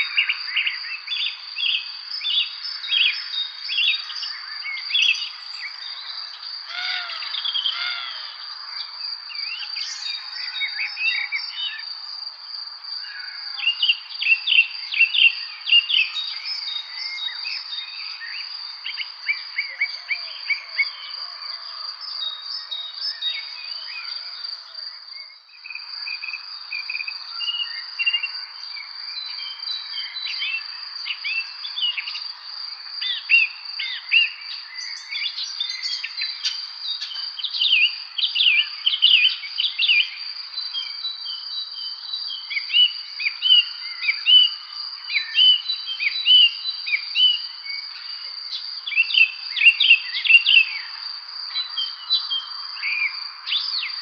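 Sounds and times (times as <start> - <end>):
small birds chirping and singing: 0.0 - 54.0.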